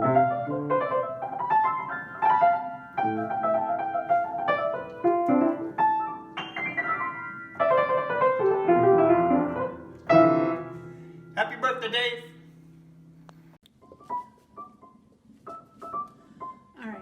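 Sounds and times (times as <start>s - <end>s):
piano playing: 0.0s - 17.0s.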